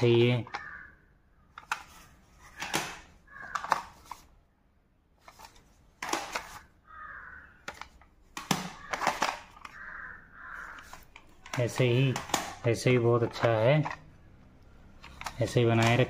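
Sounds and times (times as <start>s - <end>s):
plastic cassette cases clacking: 0.1s - 0.8s, 1.5s - 4.3s, 5.2s - 6.8s, 7.6s - 16.0s.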